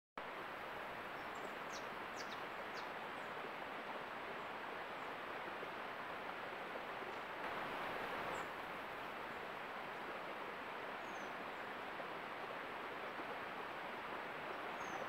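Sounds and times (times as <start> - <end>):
outdoor background hiss: 0.2 - 15.0.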